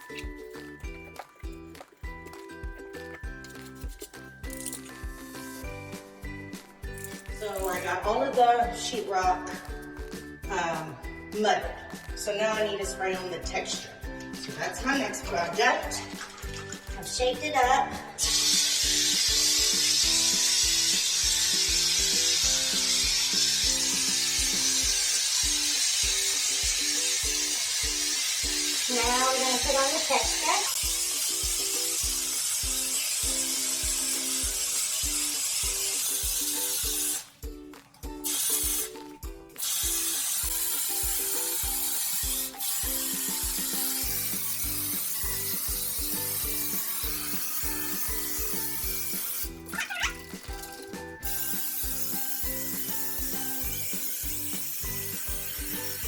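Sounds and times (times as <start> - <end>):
background music with steady beat: 0.0 - 56.0
aerosol can spray hissing: 3.5 - 10.3, 11.9 - 37.3, 38.2 - 56.0.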